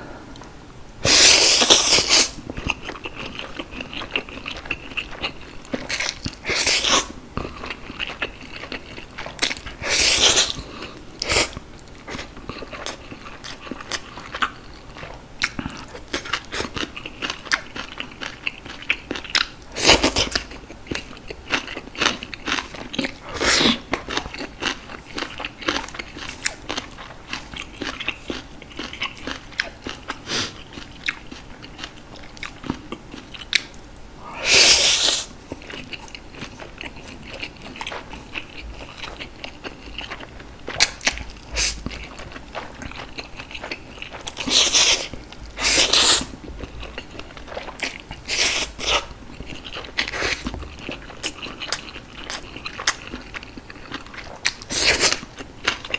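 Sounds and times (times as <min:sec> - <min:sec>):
chewing and crunching food: 0:01.1 - 0:55.9.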